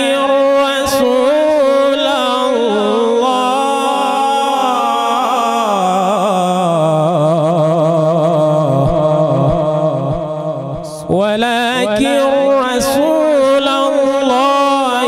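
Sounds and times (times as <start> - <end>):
man reciting in melodic chant: 0.0 - 15.0.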